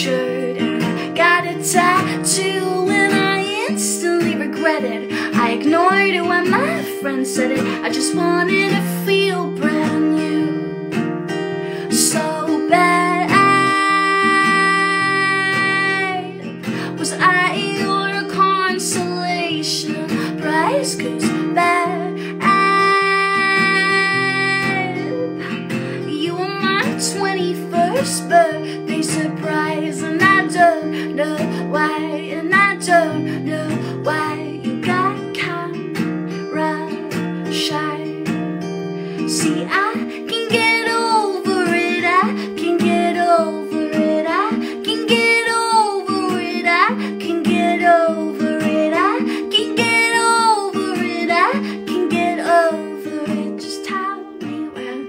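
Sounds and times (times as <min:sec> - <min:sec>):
strummed acoustic guitar: 0:00.0 - 0:55.0
woman singing: 0:00.0 - 0:55.0.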